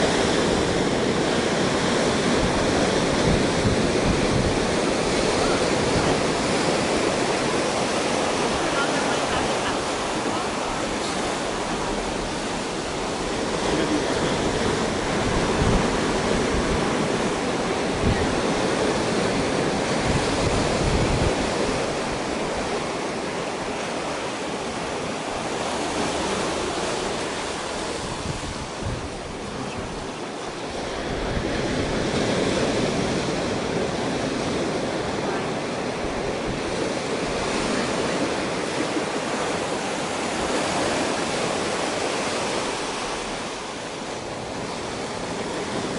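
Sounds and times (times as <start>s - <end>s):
surf on rocky beach: 0.0s - 45.9s.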